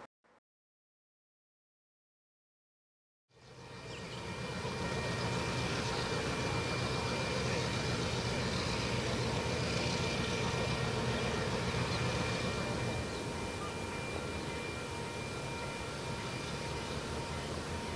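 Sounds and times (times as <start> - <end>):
diesel locomotive rumble: 3.4 - 17.9
level-crossing warning bell: 3.4 - 17.9.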